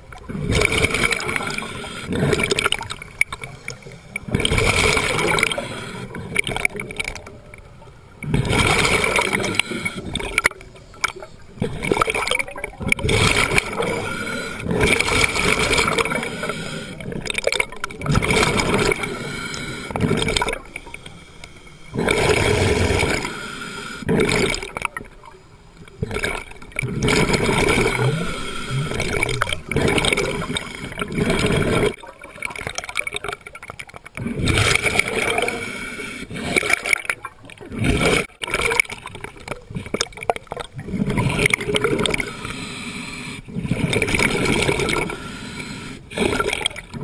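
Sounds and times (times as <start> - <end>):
exhaled air bubbling underwater: 0.0 - 47.0.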